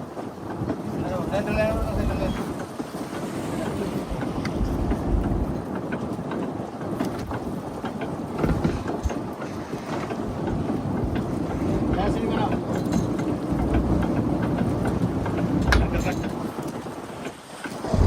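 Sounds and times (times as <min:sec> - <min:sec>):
boat engine rumbling: 0:00.0 - 0:18.0
knocks and clatter: 0:00.0 - 0:18.0.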